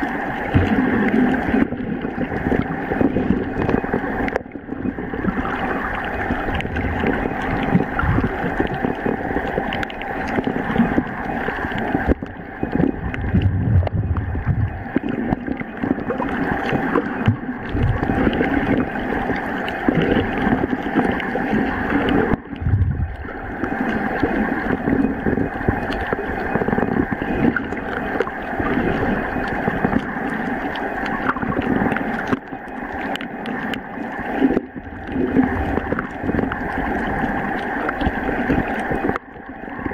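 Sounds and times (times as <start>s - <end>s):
faint steady hum: 0.0s - 39.9s
underwater water rushing: 0.0s - 39.9s.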